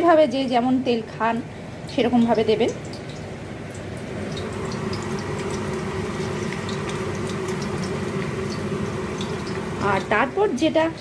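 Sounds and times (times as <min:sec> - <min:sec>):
fish sizzling in hot oil: 0:01.7 - 0:11.0.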